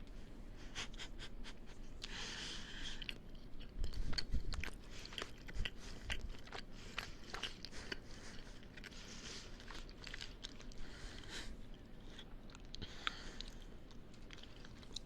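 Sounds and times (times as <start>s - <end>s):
person chewing food: 2.0s - 15.0s.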